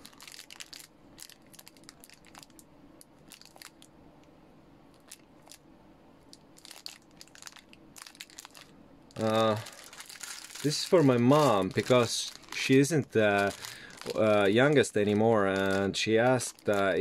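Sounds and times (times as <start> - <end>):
plastic bag crinkling: 0.0 - 3.9, 4.9 - 5.6, 6.3 - 17.0.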